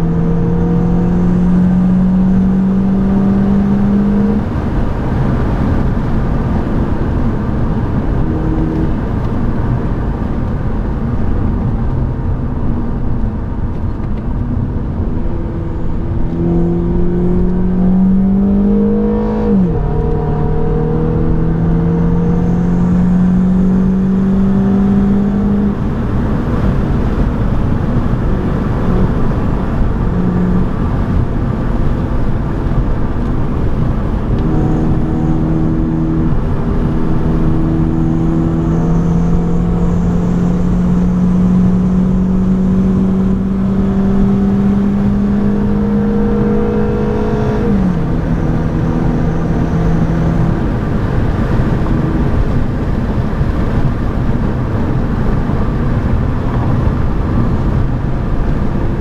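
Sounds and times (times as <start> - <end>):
car engine from inside cabin: 0.0 - 59.0
road and wind noise: 0.0 - 59.0.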